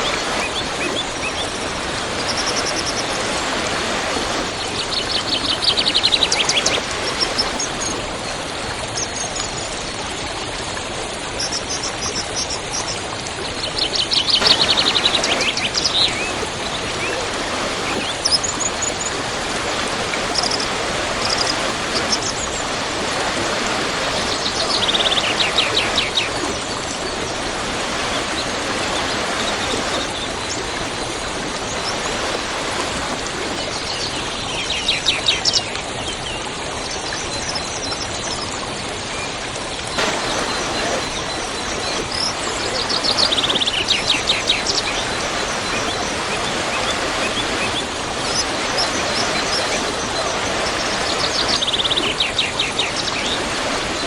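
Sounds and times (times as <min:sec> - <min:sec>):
waterfall rushing: 0:00.0 - 0:10.8, 0:13.3 - 0:34.8, 0:39.8 - 0:54.0.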